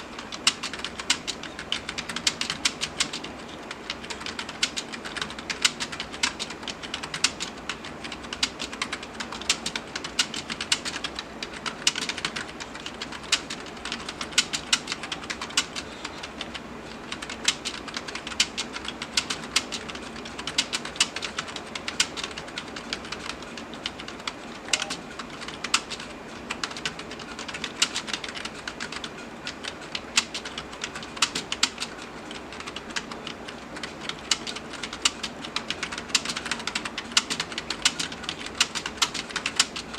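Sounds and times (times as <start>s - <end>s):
typing on keyboard: 0.2s - 39.9s.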